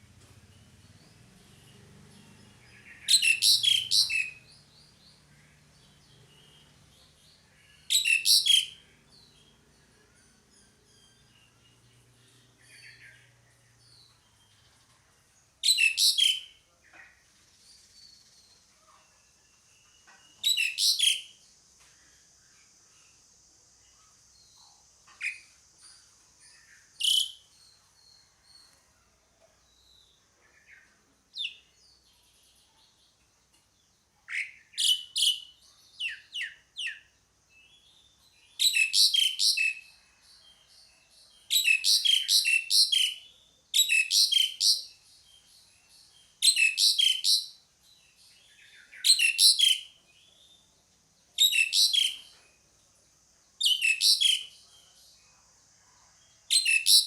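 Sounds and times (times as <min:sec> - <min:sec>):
faint steady high hiss: 0:00.0 - 0:57.0.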